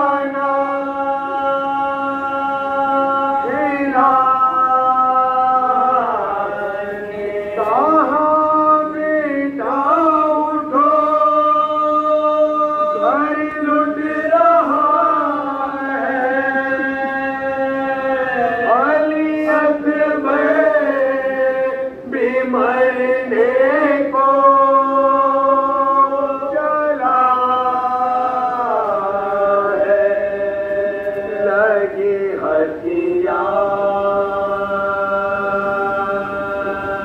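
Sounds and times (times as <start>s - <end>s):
men chanting a lament: 0.0s - 37.0s.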